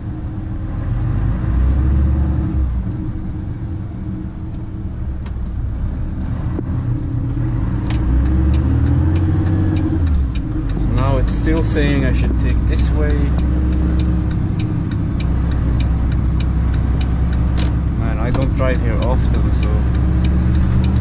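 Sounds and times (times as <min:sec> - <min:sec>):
truck diesel engine drone: 0:00.0 - 0:21.0.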